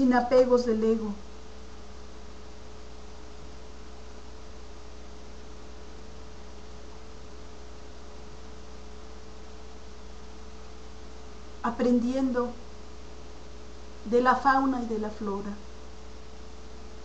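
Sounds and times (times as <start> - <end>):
electrical hum: 0.0 - 17.0
recording hiss: 0.0 - 17.0.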